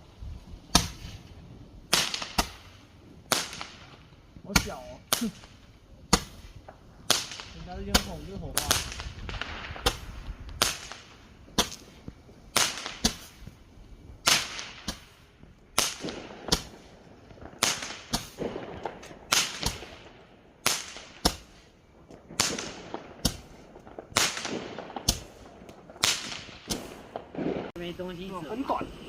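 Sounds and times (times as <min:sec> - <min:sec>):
fireworks cracking bangs: 0:00.0 - 0:29.0.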